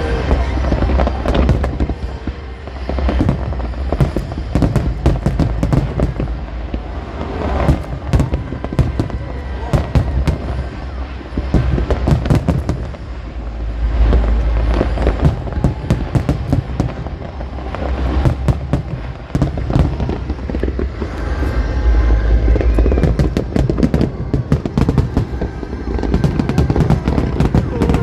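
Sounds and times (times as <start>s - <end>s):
fireworks booms: 0.0s - 28.0s
fireworks crackling: 0.0s - 28.0s.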